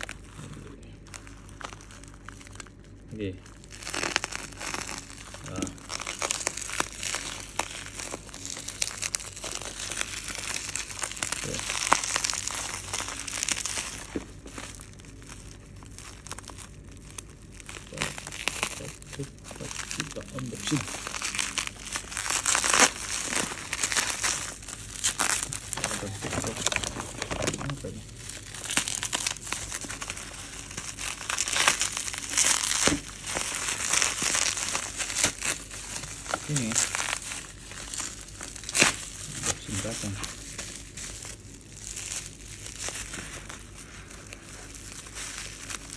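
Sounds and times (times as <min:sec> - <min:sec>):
parcel tearing: 0:00.0 - 0:45.9
plastic mailer bag crinkling: 0:00.0 - 0:45.9.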